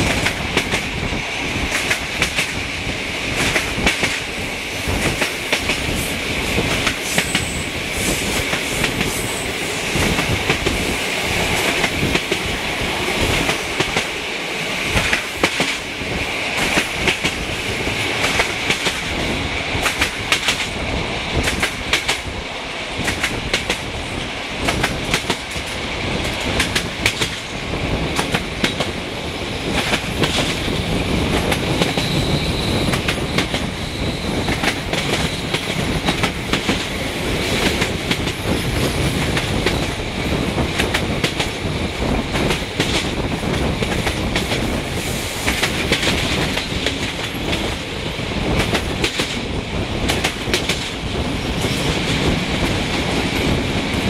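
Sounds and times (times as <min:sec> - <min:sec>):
steady rushing noise: 0:00.0 - 0:54.0
train wheels clattering over track: 0:00.0 - 0:54.0.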